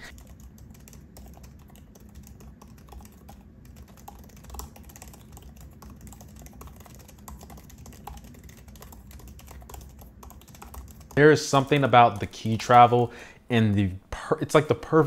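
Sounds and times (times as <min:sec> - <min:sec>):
laptop keyboard typing clicks: 0:00.1 - 0:12.7.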